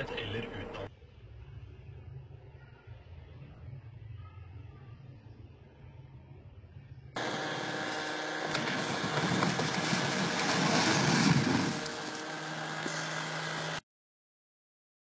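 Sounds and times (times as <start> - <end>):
faint low hum: 0.0 - 12.2
outdoor noise: 0.0 - 13.8.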